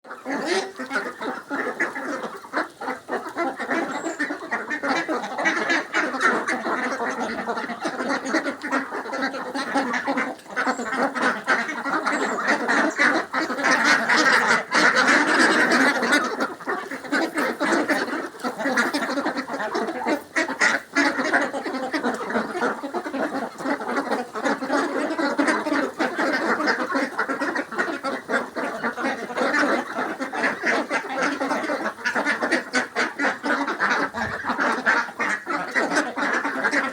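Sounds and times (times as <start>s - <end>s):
ducks quacking: 0.0s - 36.9s.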